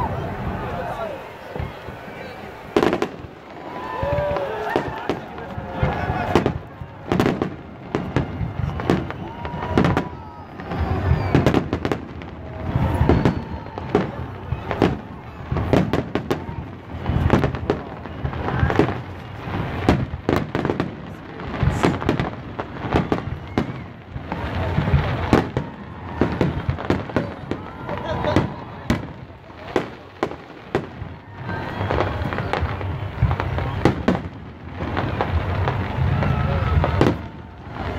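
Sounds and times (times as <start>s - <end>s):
fireworks crackling: 0.0s - 37.9s
fireworks exploding: 0.0s - 37.9s.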